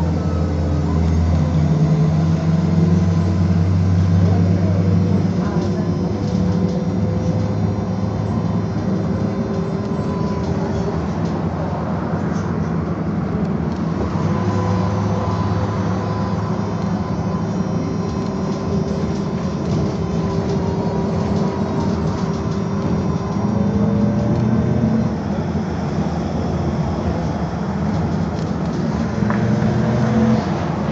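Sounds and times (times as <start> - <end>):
tyres rumbling on road: 0.0 - 30.9.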